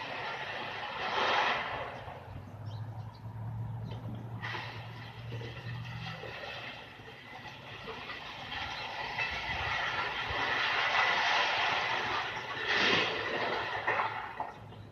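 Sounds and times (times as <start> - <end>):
grinding clattering scrap metal: 0.0 - 2.4, 3.8 - 14.9.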